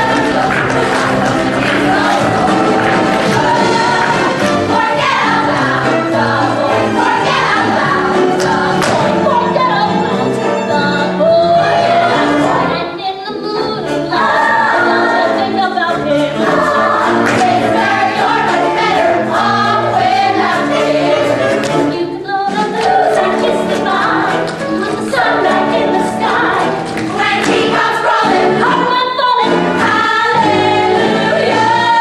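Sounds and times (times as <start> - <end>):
band accompaniment: 0.0 - 13.0, 13.9 - 32.0
female chorus singing: 0.0 - 32.0.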